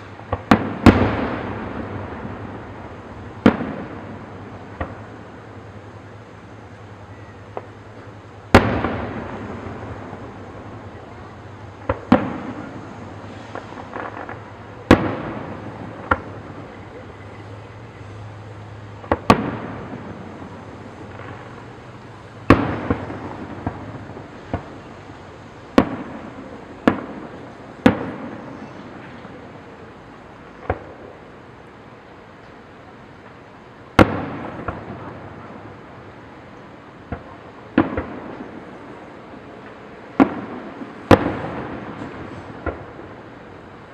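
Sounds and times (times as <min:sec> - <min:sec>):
fireworks bangs with rumble: 0:00.0 - 0:29.9, 0:30.5 - 0:31.2, 0:33.2 - 0:36.2, 0:37.0 - 0:43.9.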